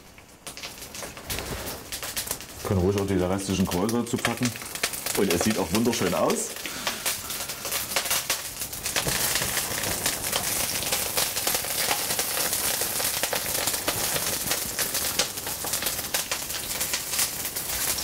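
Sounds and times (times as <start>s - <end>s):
oil sizzling in a wok: 0.0s - 18.0s.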